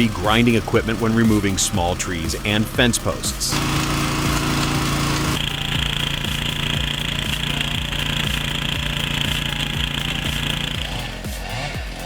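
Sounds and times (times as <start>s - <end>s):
high steady whine: 0.0s - 11.7s
machine engine running: 0.0s - 12.0s.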